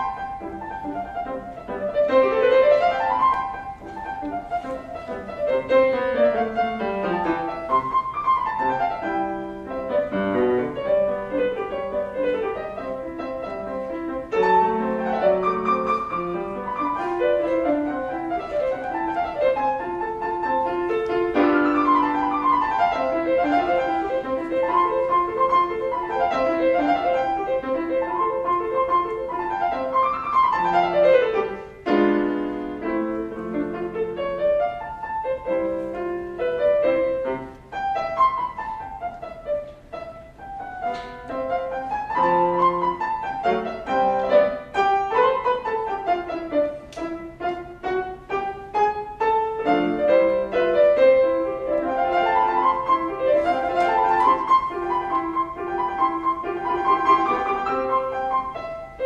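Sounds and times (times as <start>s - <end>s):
classical solo piano: 0.0s - 59.0s.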